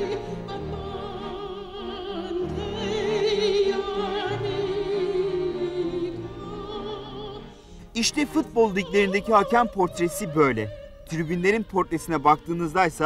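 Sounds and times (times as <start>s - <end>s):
opera singer with vibrato: 0.0s - 13.0s
orchestra playing: 2.0s - 13.0s.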